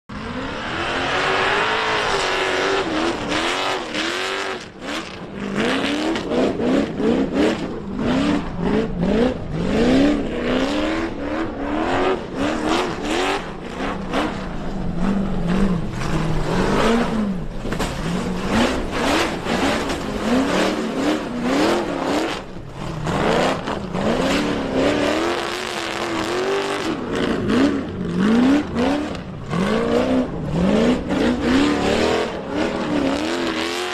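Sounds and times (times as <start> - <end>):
off-road engines revving: 0.1 - 33.9.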